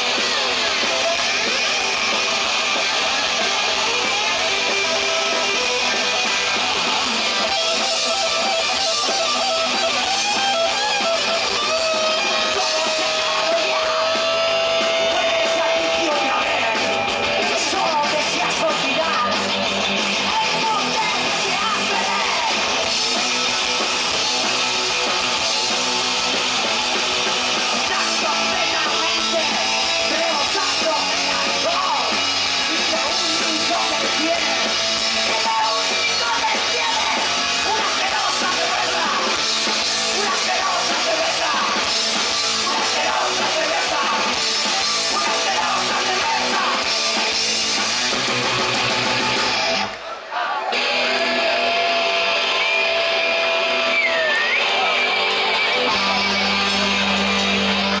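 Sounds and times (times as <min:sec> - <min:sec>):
punk rock band playing: 0:00.0 - 0:58.0.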